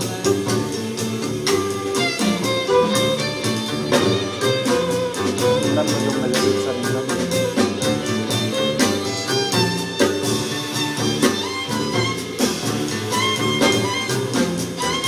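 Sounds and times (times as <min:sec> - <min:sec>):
double bass: 0:00.0 - 0:15.0
drums: 0:00.0 - 0:15.0
jazz band playing: 0:00.0 - 0:15.0.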